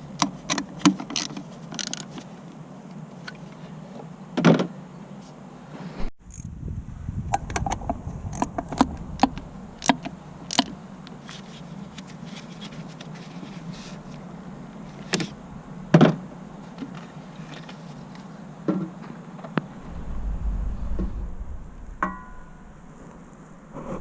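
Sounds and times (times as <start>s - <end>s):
steady low hum: 2.3s - 24.0s.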